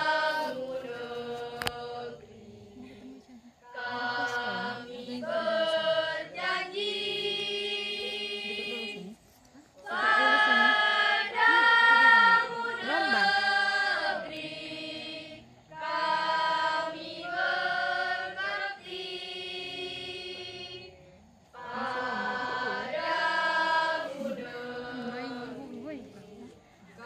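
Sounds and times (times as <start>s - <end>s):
choir singing a cappella: 0.0s - 9.2s, 9.8s - 27.0s.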